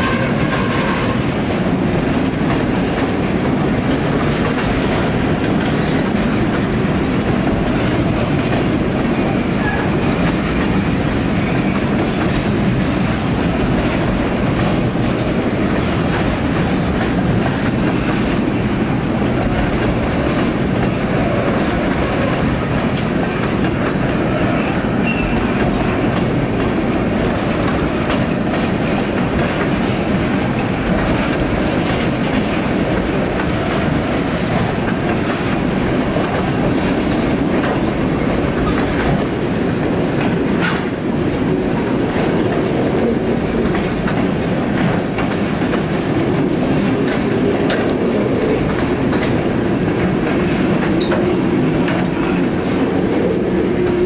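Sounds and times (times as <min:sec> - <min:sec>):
freight train wheels rumbling: 0:00.0 - 0:54.0
wheels clicking over rail joints: 0:00.0 - 0:54.0.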